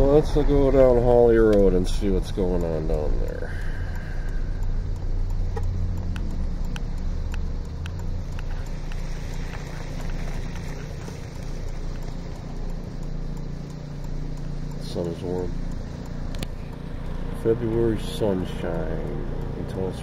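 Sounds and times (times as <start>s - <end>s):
car engine hum: 0.0s - 20.0s
light regular ticking: 0.0s - 20.0s
road and tyre noise: 0.0s - 20.0s.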